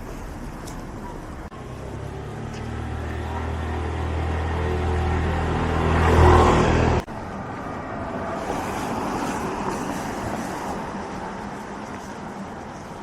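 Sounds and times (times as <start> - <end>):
street traffic hiss: 0.0 - 13.0
vehicle engine humming: 0.0 - 13.0.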